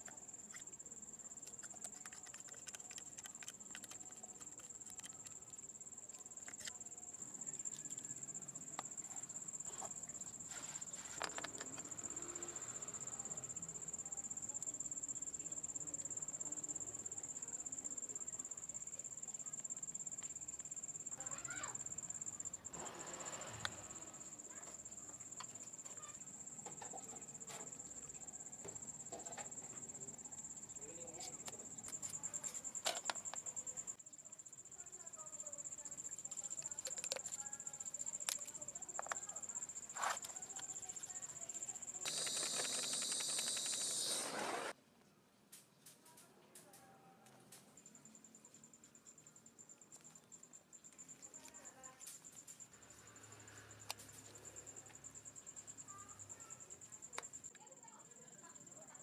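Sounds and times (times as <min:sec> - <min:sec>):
cricket trilling: 0:00.0 - 0:44.8, 0:47.5 - 0:59.0.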